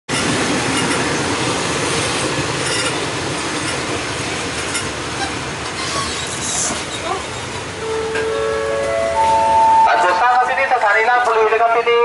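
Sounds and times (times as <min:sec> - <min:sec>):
train wheels rumbling on rails: 0:00.1 - 0:11.7.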